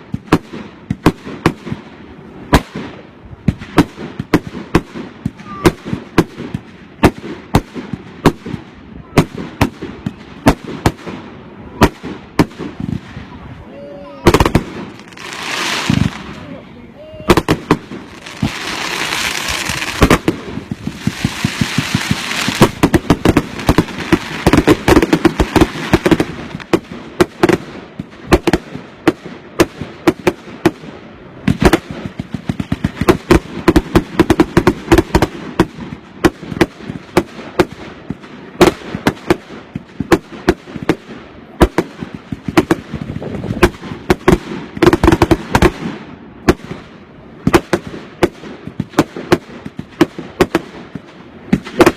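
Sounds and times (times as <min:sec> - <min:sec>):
fireworks bangs and cracks: 0:00.0 - 0:51.9
hissing rush of fireworks: 0:00.0 - 0:51.9.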